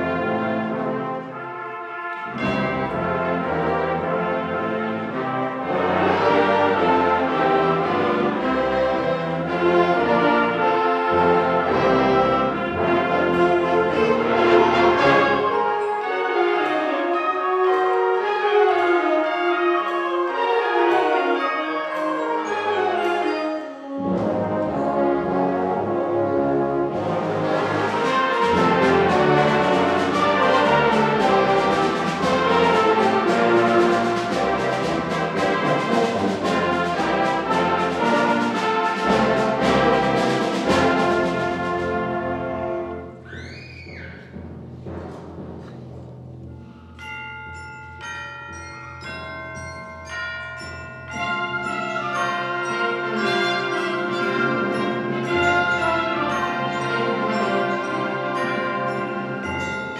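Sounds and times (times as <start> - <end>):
wind band playing: 0.0 - 46.5, 51.1 - 59.9.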